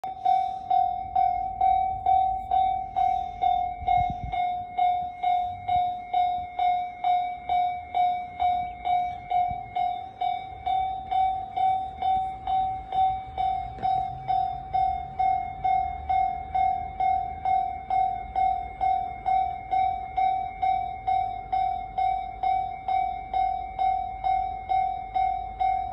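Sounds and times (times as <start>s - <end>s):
level crossing warning bell: 0.0s - 25.9s.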